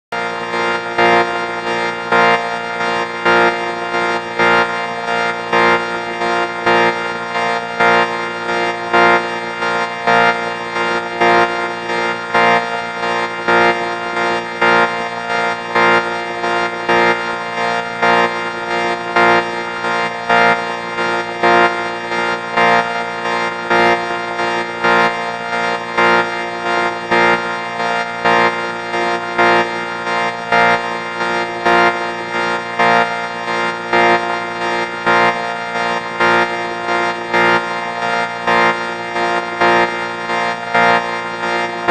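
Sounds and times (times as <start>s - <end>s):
pulsing buzzy vocoder chord: 0.1s - 41.9s.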